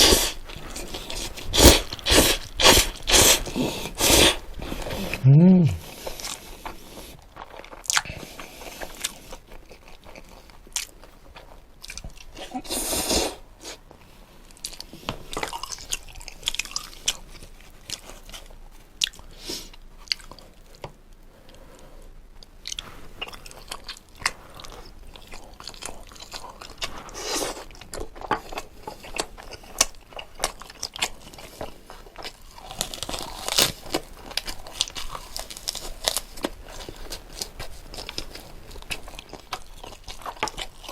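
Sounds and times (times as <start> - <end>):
chewing and crunching: 0.0 - 5.2, 5.8 - 40.9.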